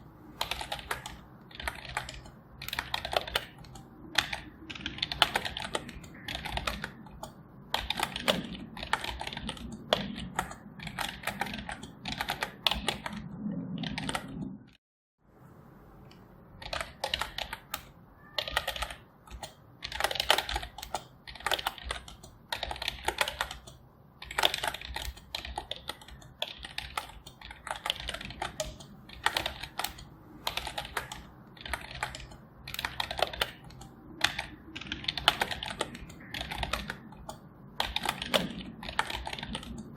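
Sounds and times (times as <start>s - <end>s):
typing on keyboard: 0.0s - 14.6s, 16.6s - 39.9s.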